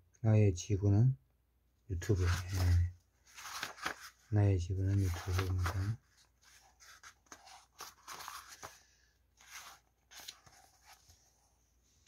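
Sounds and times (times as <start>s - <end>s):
book pages rustling: 2.0s - 12.0s.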